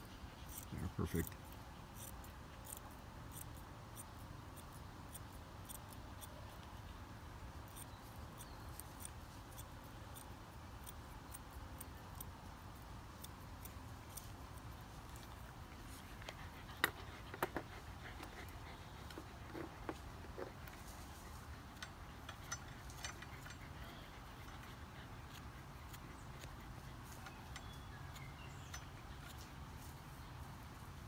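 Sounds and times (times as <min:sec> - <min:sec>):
shears snipping hair: 0:00.0 - 0:31.0
shears clicking: 0:00.3 - 0:07.0, 0:07.6 - 0:31.0.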